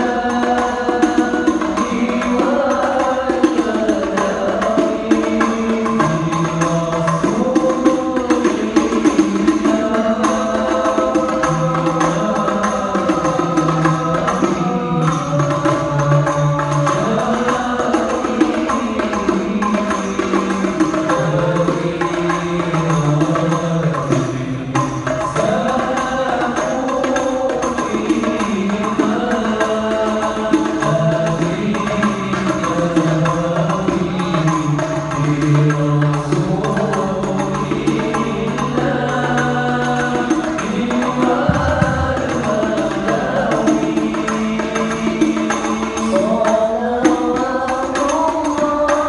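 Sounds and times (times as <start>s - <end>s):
frame drums beating: 0.0s - 49.0s
men singing a chant: 0.0s - 49.0s.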